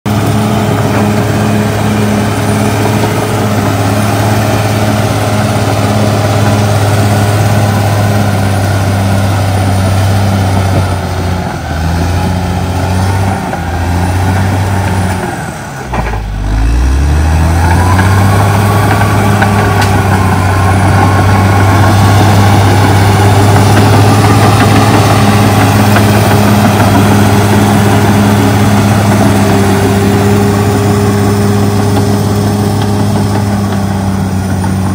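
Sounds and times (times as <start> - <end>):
bulldozer diesel engine: 0.0 - 34.9.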